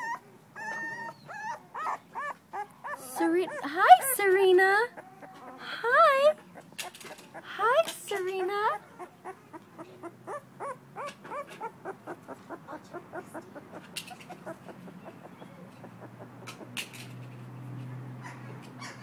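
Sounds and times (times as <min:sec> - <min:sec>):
puppy whimpering: 0:00.0 - 0:07.8, 0:08.6 - 0:16.8.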